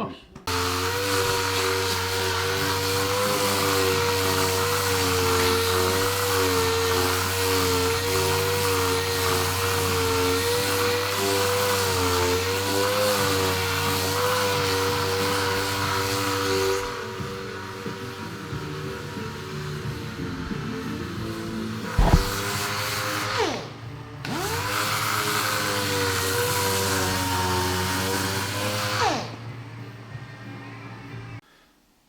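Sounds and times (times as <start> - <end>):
power tool whine: 0.5 - 19.6, 21.2 - 22.5, 23.2 - 29.5.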